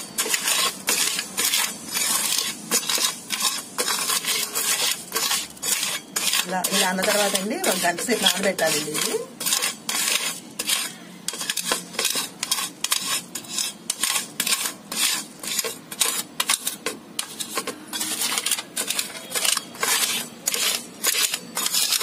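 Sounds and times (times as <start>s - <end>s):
metal bowl scraping on seeds: 0.0s - 22.0s.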